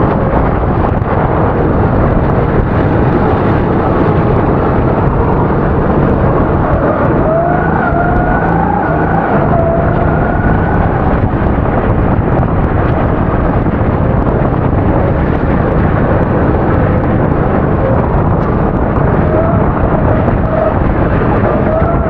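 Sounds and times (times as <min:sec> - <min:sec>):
kart engine running: 0:00.0 - 0:22.0
loud steady rushing noise: 0:00.0 - 0:22.0.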